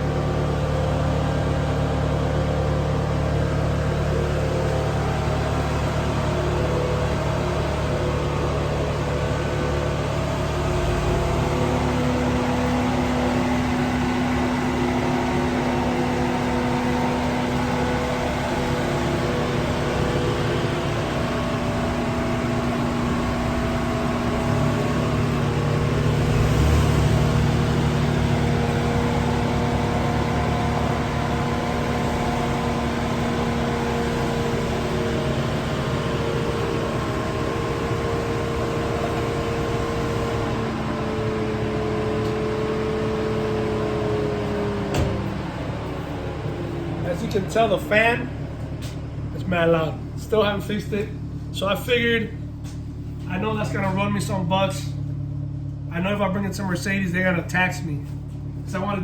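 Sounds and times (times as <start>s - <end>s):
car engine idling: 0.0s - 59.0s
loud cooling fan whir: 0.0s - 59.0s.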